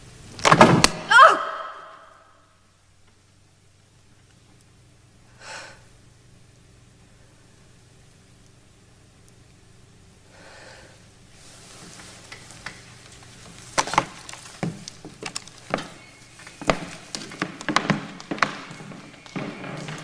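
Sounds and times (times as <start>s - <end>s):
soft hiss: 2.0s - 20.0s.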